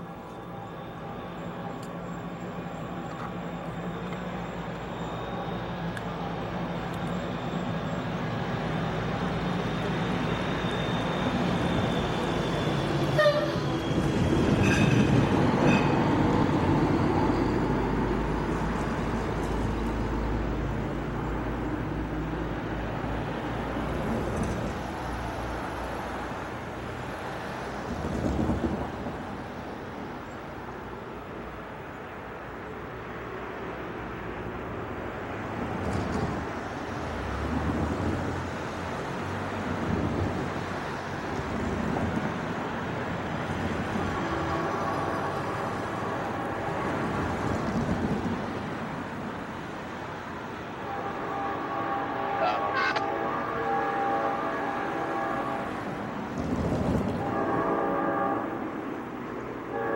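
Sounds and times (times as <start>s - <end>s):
diesel locomotive passing: 0.0s - 59.9s.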